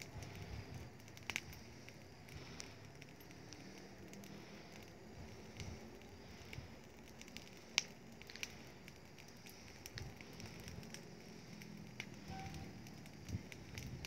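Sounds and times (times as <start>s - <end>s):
burning rubbish crackling: 0.0s - 14.0s
fire pops and snaps: 0.0s - 14.0s.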